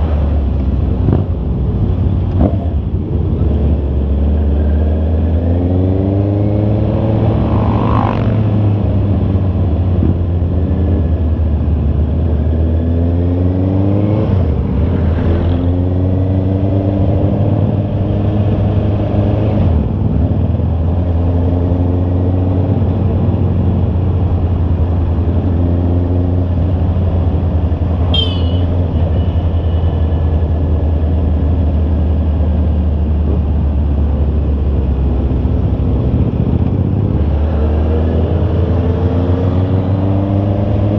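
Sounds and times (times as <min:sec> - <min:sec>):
motorcycle engine accelerating: 0:00.9 - 0:40.9.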